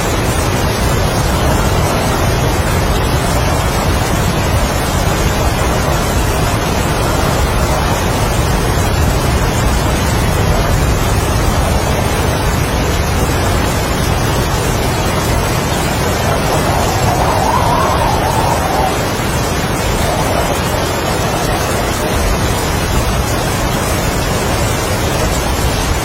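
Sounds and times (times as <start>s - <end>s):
heavy rain: 0.0s - 26.0s
strong wind: 0.0s - 26.0s.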